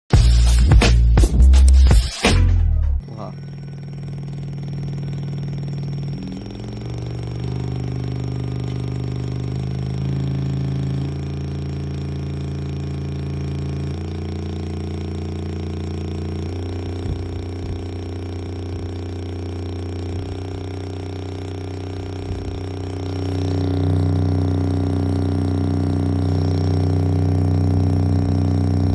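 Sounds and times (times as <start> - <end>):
deep bass test notes from speaker: 0.1 - 28.9.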